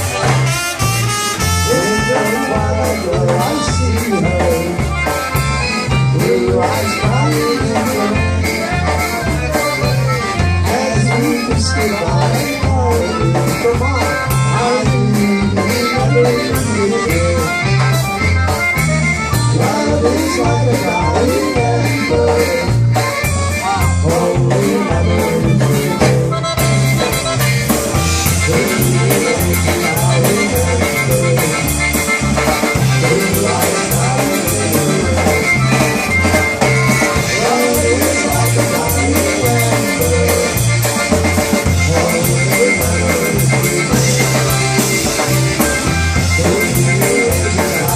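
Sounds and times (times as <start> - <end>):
accordion melody: 0.0 - 47.9
bass line: 0.0 - 47.9
drums: 0.0 - 47.9.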